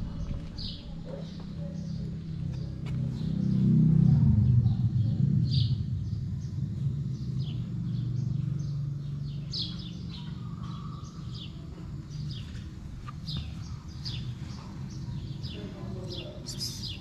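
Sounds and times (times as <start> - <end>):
low background rumble: 0.0 - 17.0
small birds chirping: 0.0 - 17.0.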